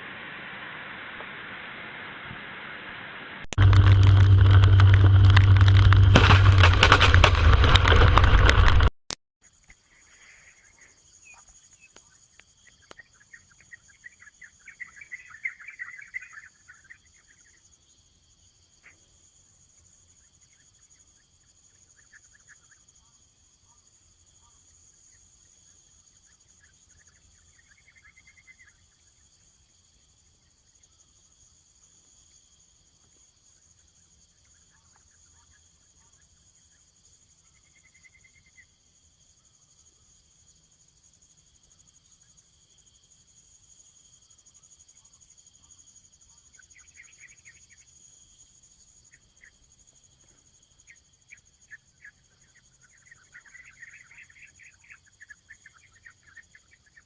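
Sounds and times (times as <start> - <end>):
insects trilling: 9.4 - 57.0.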